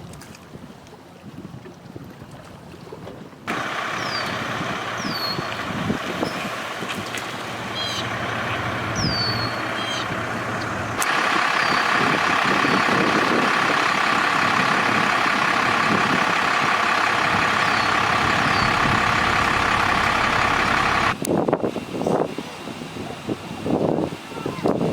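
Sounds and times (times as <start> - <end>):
vehicle engine noise: 3.5 - 24.9.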